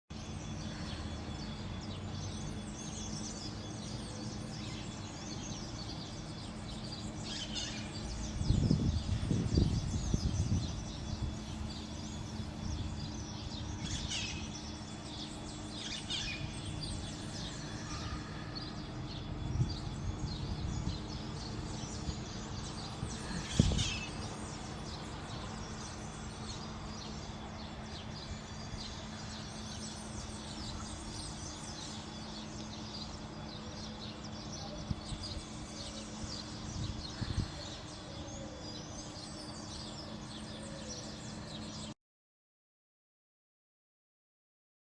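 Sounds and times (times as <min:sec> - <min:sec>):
low city hum: 0:00.1 - 0:42.0
small birds chirping: 0:00.1 - 0:42.0.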